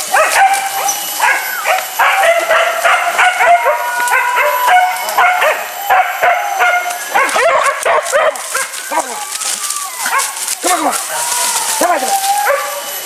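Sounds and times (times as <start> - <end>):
hunting dogs yelping and baying: 0.0 - 13.0.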